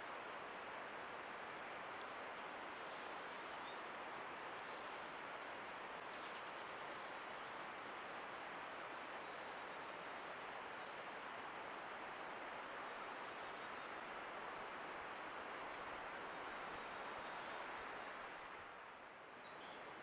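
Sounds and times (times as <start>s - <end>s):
creek water flowing: 0.0s - 20.0s.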